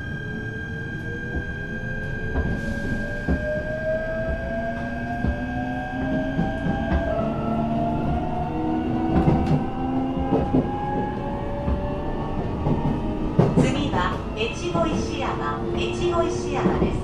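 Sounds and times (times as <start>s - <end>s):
train drive whine: 0.0s - 17.0s
train low rumble: 0.0s - 17.0s.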